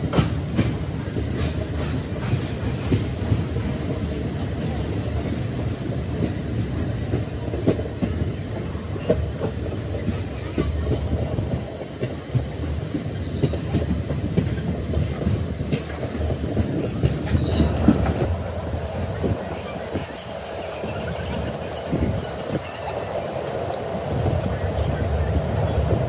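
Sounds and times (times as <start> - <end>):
train wheels rumbling on rail: 0.0 - 26.0
wheels clacking over rail joints: 0.0 - 26.0.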